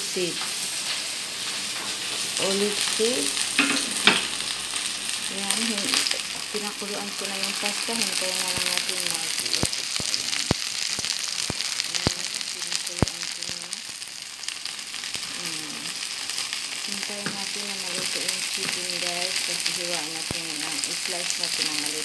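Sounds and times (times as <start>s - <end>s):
chicken sizzling in a pan: 0.0s - 22.0s.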